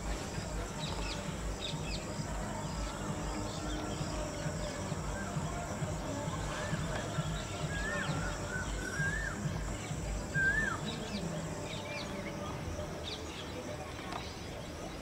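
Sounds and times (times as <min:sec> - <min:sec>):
birds whistling: 0:00.2 - 0:12.4.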